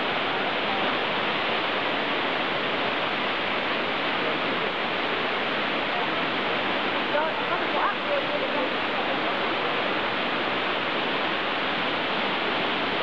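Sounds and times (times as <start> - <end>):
indoor waterfall rushing: 0.0 - 13.0.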